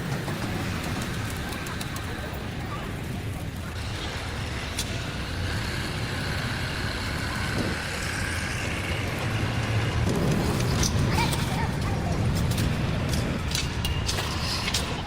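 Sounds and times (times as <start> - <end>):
machinery rumbling: 0.0 - 15.0.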